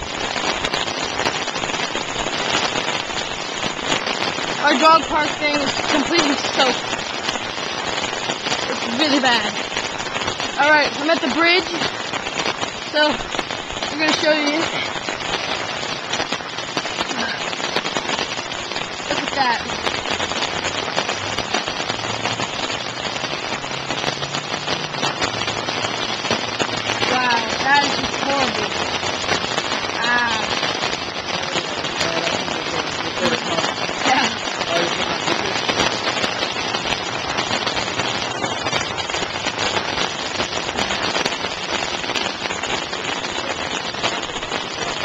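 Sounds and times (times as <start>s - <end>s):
floodwater rushing: 0.0s - 45.0s
heavy rain drops: 0.0s - 45.0s.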